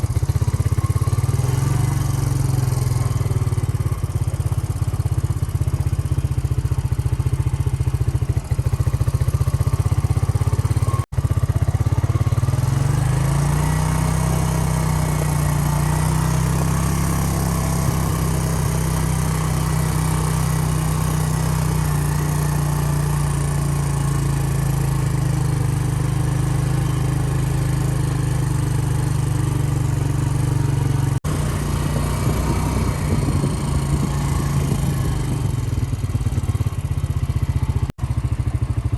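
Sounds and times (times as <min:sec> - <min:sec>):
truck engine running: 0:00.0 - 0:37.9.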